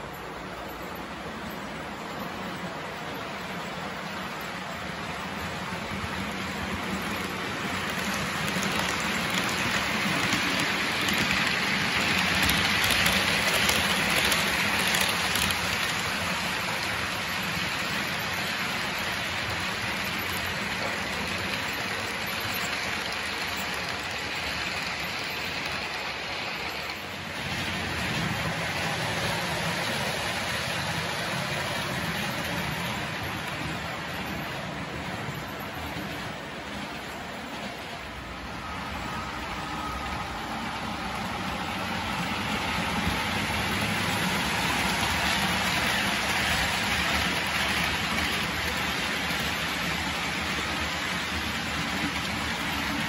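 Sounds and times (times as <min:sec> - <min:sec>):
model train wheels rattling: 0:01.9 - 0:38.2, 0:41.2 - 0:53.0.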